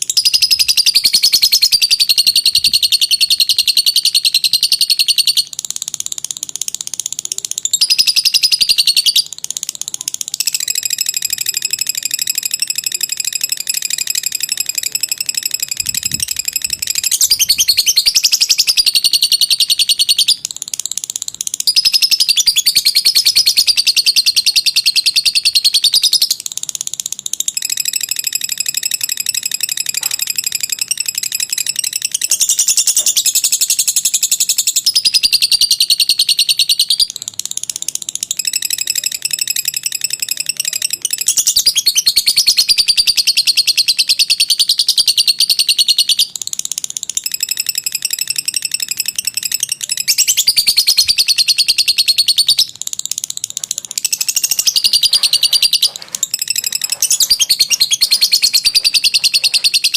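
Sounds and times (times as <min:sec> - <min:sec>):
bird high-pitched trill: 0:00.0 - 0:59.9.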